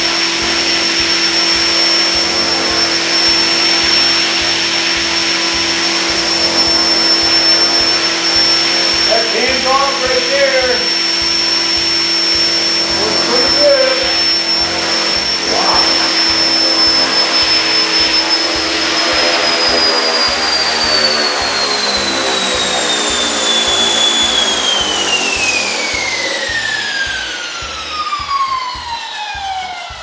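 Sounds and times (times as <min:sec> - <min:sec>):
electric motor whining: 0:00.0 - 0:30.0
rotor blades rushing: 0:00.0 - 0:30.0.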